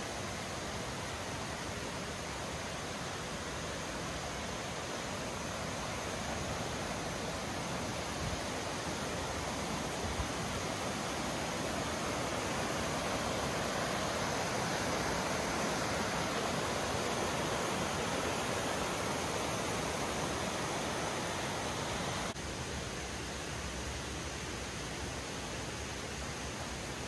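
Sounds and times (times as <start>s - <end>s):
creek water rushing over rocks: 0.0s - 27.0s.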